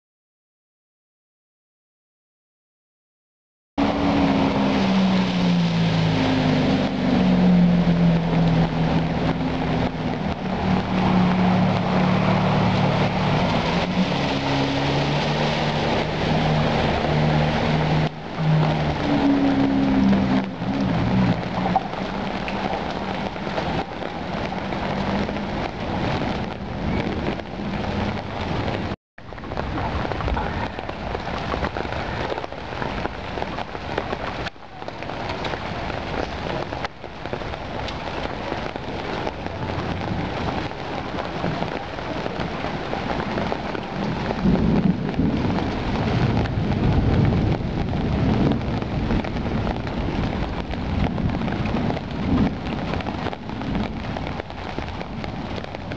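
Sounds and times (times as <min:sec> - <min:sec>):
deep rumble: 0:03.8 - 0:55.9
heavy rain on pavement and cars: 0:03.8 - 0:55.9.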